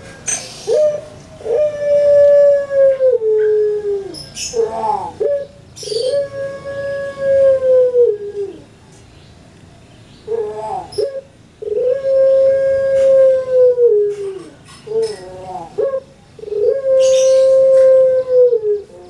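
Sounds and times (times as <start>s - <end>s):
dove cooing: 0.0s - 8.8s, 10.2s - 19.0s.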